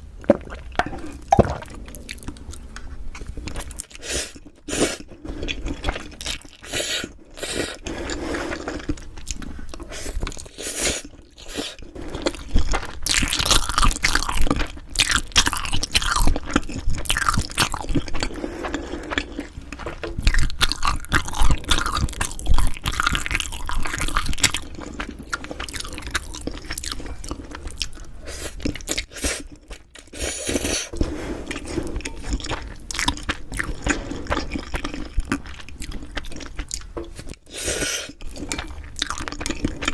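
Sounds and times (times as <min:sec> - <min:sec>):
chewing and biting food: 0:00.3 - 0:30.9, 0:31.5 - 0:39.9.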